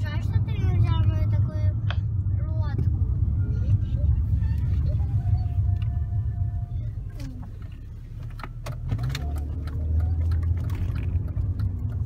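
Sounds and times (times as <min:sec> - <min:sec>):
car engine from inside cabin: 0:00.0 - 0:12.0
road rumble: 0:00.0 - 0:12.0.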